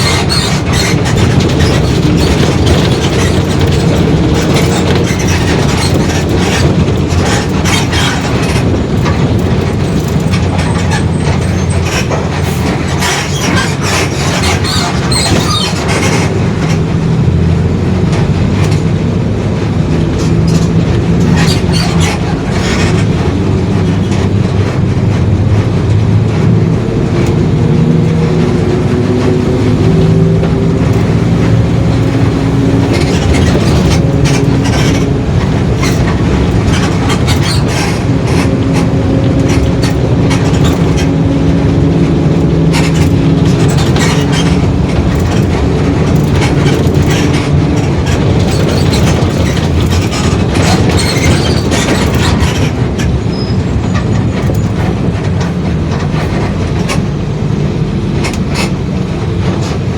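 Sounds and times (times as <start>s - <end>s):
bus body rattling: 0.0s - 59.9s
bus diesel engine running: 0.0s - 59.9s
growling whine from differential: 0.0s - 59.9s.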